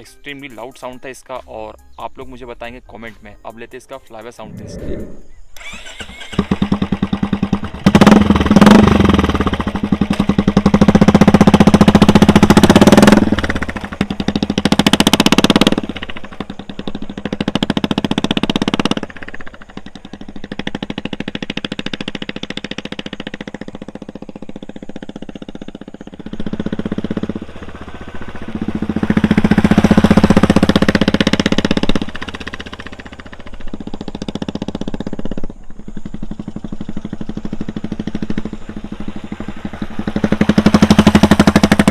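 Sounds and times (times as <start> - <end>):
motorcycle riding past: 4.4 - 41.9.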